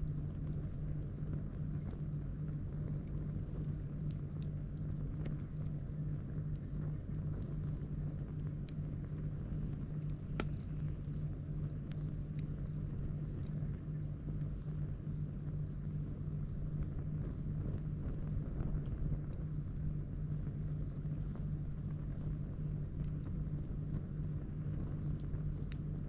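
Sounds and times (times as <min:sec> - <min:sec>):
campfire crackling and popping: 0:00.0 - 0:26.0
steady low rumble: 0:00.0 - 0:26.0.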